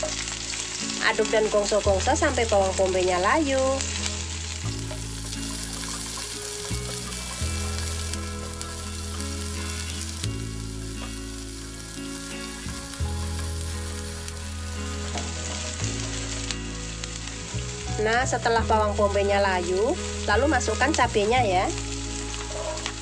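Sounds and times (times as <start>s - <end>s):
background music low notes: 0.0s - 23.0s
vegetables sizzling in oil: 0.0s - 23.0s.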